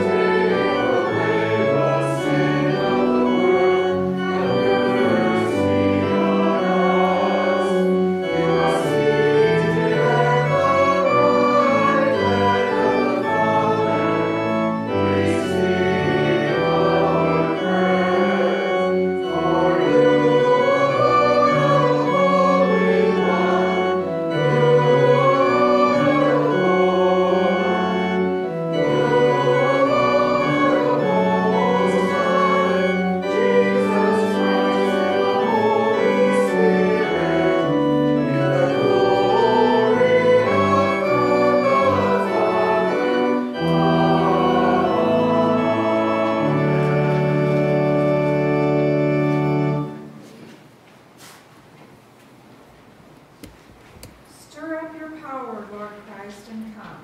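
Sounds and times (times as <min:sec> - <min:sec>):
organ playing a hymn: 0:00.0 - 0:50.6.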